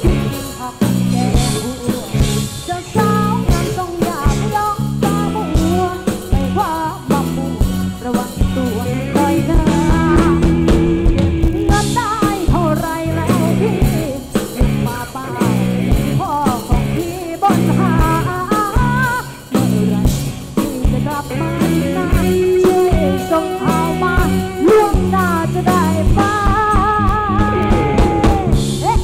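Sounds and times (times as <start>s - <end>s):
bass: 0.0s - 29.0s
drum beat: 0.0s - 29.0s
person singing: 0.0s - 29.0s.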